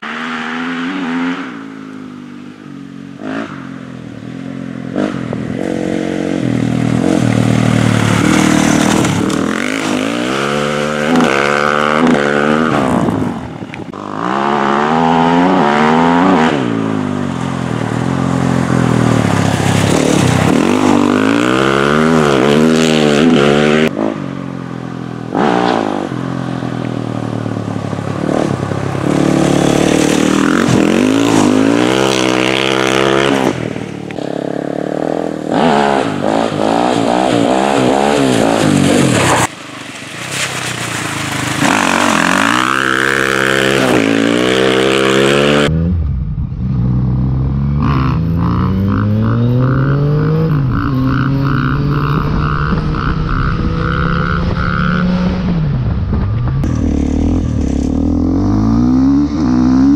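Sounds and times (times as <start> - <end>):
motorcycle engine accelerating hard: 0.0 - 39.5, 40.4 - 59.9.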